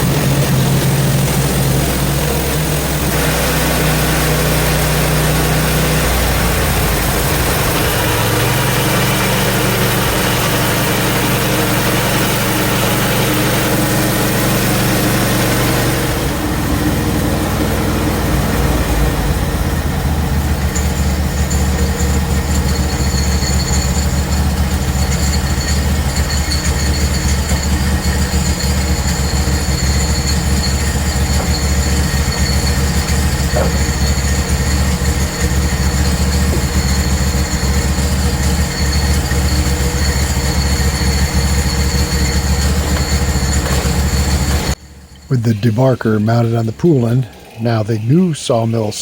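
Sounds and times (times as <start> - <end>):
band blade whining through log: 0.0 - 45.3
sawmill engine droning: 0.0 - 49.0.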